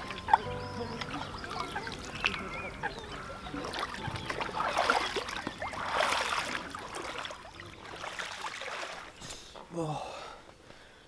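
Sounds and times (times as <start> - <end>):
legs wading through shallow water: 0.0 - 9.7
water sloshing and streaming: 0.0 - 9.8.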